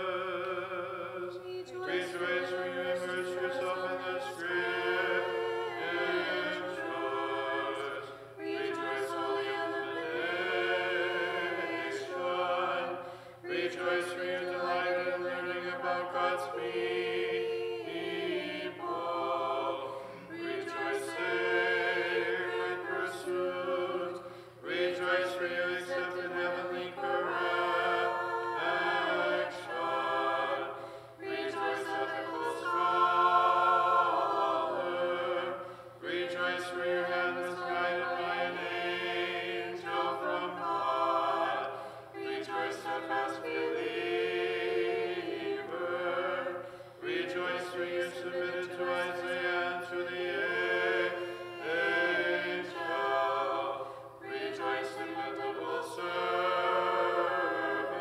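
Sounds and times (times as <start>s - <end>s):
choir chanting a cappella: 0.0s - 58.0s.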